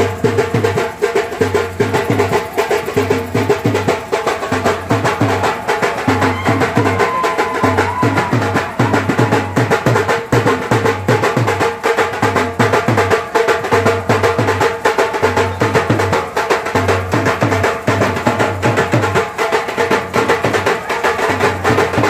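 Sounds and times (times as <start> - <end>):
band playing fast drumming: 0.0 - 22.0.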